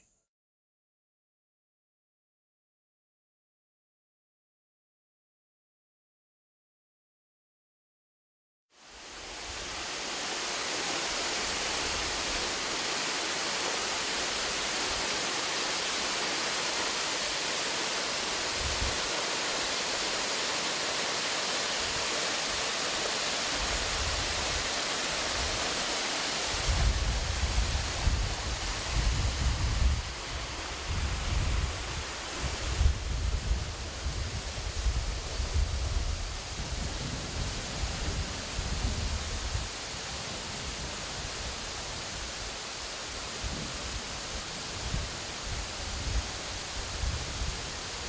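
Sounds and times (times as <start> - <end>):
waterfall rushing: 8.8 - 48.0.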